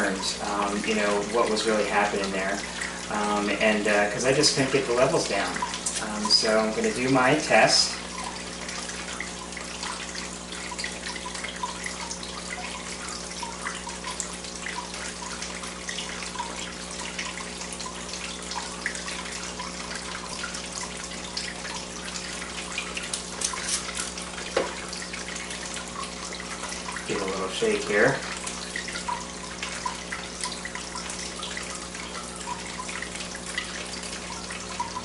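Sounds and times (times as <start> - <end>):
low steady hum: 0.0 - 35.0
water trickling and splashing: 0.0 - 35.0.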